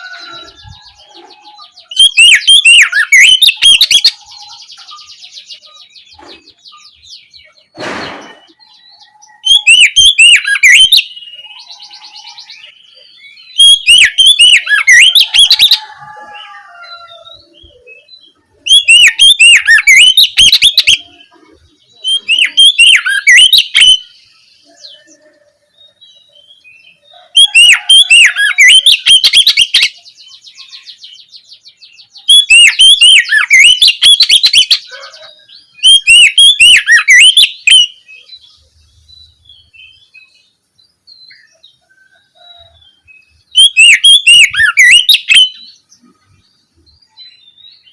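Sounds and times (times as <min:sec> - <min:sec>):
bird song of whistled notes: 0:00.0 - 0:47.9.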